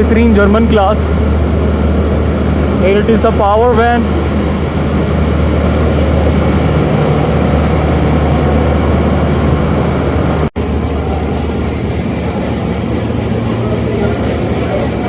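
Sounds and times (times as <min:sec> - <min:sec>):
diesel generator humming: 0:00.0 - 0:15.0.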